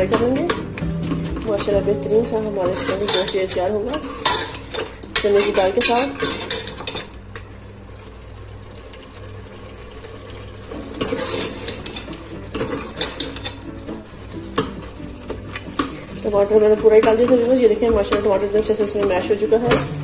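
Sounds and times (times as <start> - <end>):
ladle scraping metal pot: 0.0 - 7.1, 10.8 - 20.0
sauce sizzling: 0.0 - 20.0.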